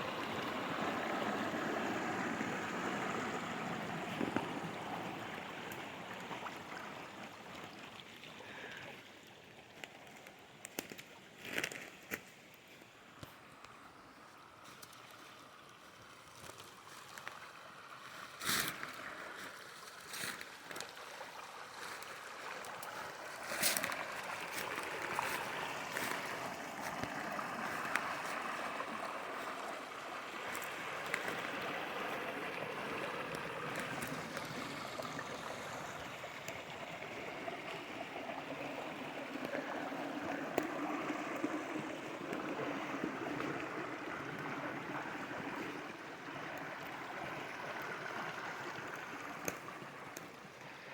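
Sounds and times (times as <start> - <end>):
water flowing in a stream: 0.0 - 50.9.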